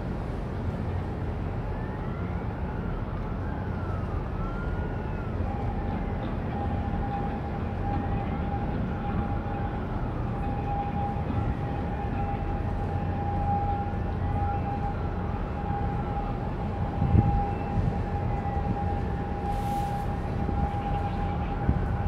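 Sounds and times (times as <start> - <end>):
faint siren-like wails: 0.0 - 22.0
ship machinery hum and rumble: 0.0 - 22.0.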